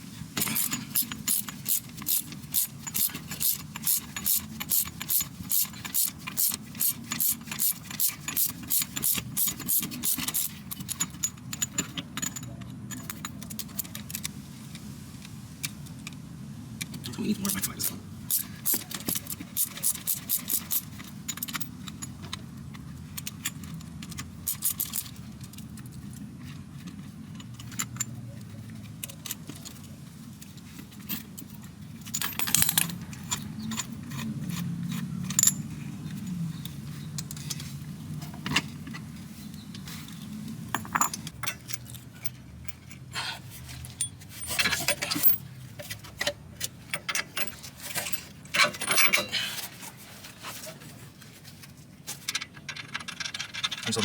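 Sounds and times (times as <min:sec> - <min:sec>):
metal tools clinking: 0:00.4 - 0:14.3, 0:17.3 - 0:22.4, 0:23.1 - 0:50.7.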